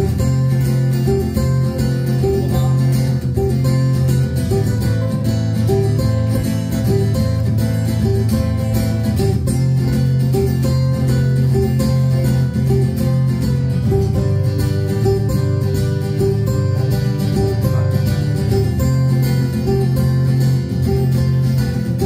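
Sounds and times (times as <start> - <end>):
upbeat plucked string music: 0.0 - 22.0.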